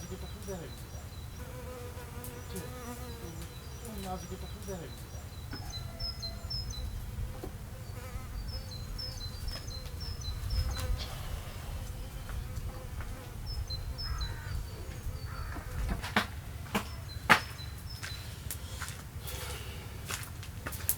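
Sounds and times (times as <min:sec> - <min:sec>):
buzzing hum: 0:00.0 - 0:18.0
songbird chirping: 0:00.0 - 0:20.9.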